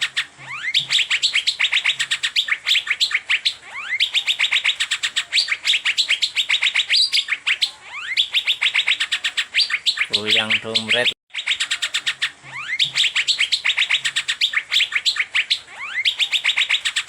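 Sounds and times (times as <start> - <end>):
bird singing high chirps: 0.0 - 17.0
bird whistled slurs: 0.0 - 17.0.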